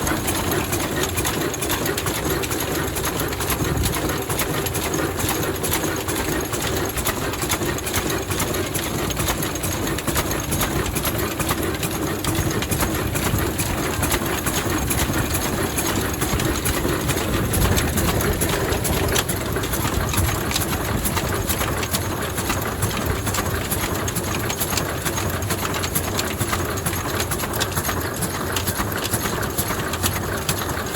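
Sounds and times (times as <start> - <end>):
diesel engine clattering: 0.0 - 30.9.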